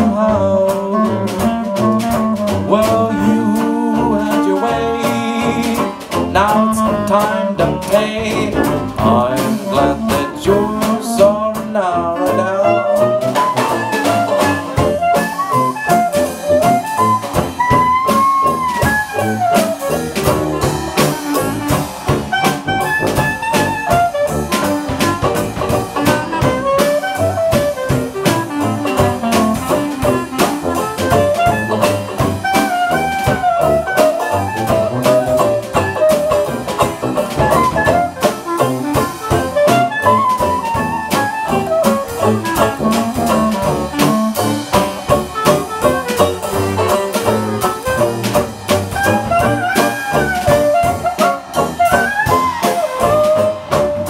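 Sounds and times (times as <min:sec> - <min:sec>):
clarinet solo: 0:00.0 - 0:54.0
drum kit swing beat: 0:00.0 - 0:54.0.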